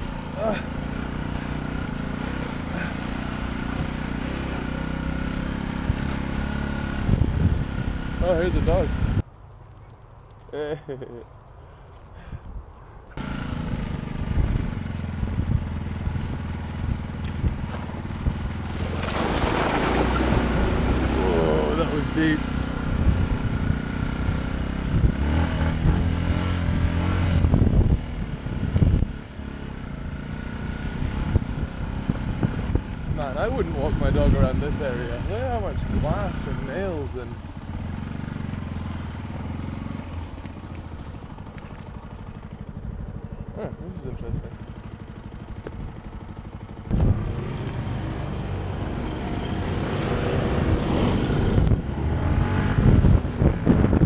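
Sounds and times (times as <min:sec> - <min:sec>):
motorbike engine running: 0:00.0 - 0:09.2, 0:13.2 - 0:54.0.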